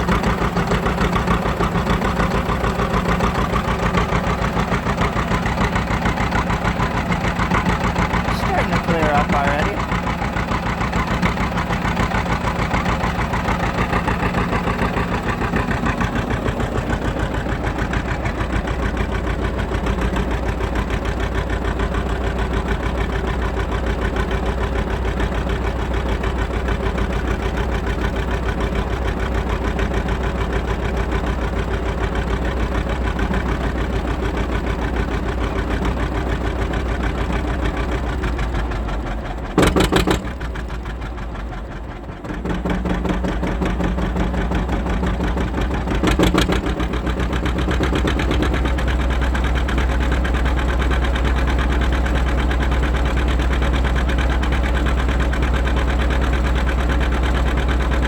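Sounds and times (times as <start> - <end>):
tractor diesel engine pulsing: 0.0 - 58.0.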